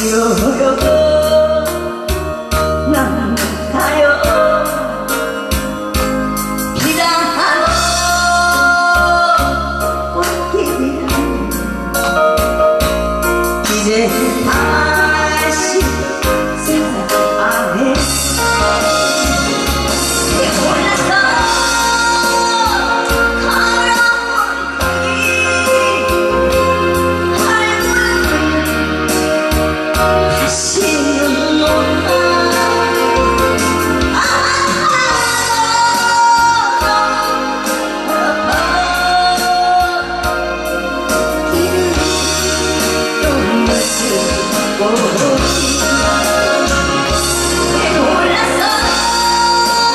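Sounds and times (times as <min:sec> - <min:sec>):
woman singing: 0:00.0 - 0:05.5, 0:06.7 - 0:12.2, 0:13.6 - 0:49.9
amplified backing music: 0:00.0 - 0:49.9.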